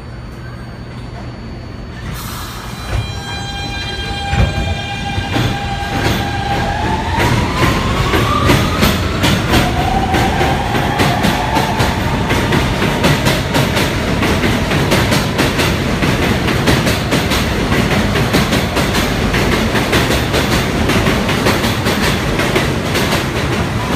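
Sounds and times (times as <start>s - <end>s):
rail joint clicks: 2.0s - 23.9s
train wheels rumbling on rail: 2.0s - 23.9s.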